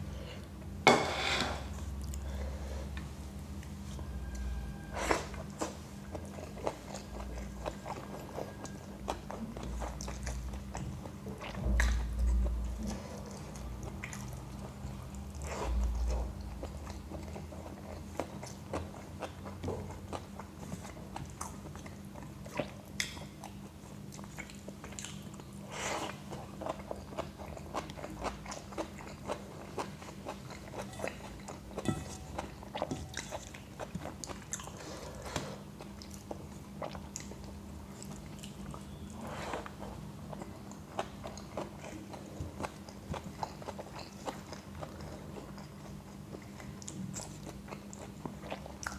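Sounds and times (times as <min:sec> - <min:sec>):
faint steady hum: 0:00.0 - 0:48.9
person chewing wetly: 0:05.1 - 0:48.9.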